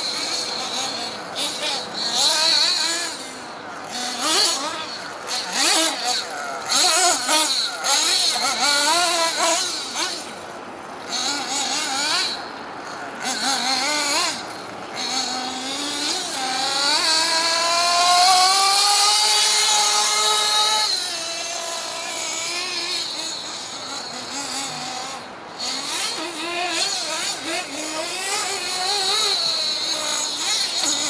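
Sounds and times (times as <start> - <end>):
nitro rc buggy engine revving: 0.0 - 31.0.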